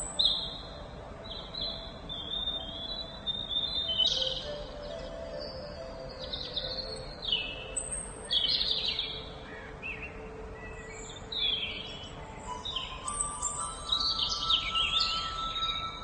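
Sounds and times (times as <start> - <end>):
wild birds chirping and trilling: 0.0 - 16.0.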